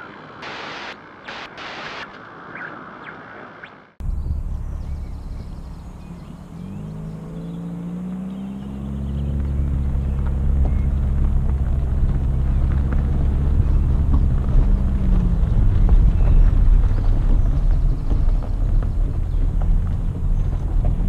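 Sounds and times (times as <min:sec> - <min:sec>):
car engine: 0:04.0 - 0:21.0
low rumble: 0:04.0 - 0:21.0
tyres crunching on gravel: 0:04.1 - 0:21.0.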